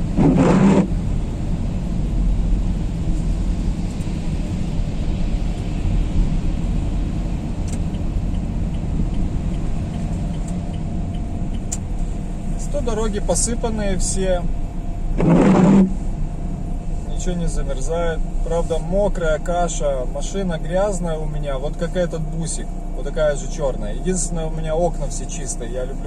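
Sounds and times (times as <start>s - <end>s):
car engine rumble in cabin: 0.0s - 26.0s
tyres on wet slushy road: 0.0s - 26.0s.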